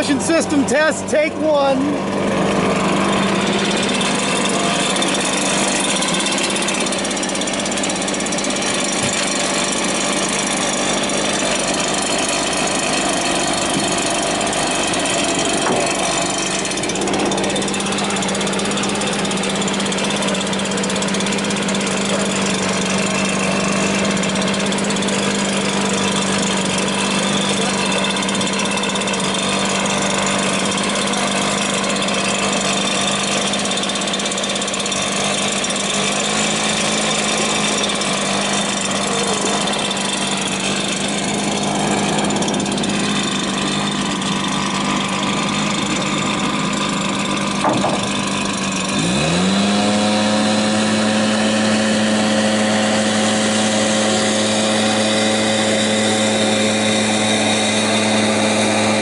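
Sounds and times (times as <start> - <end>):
blower engine running: 0.0 - 59.0.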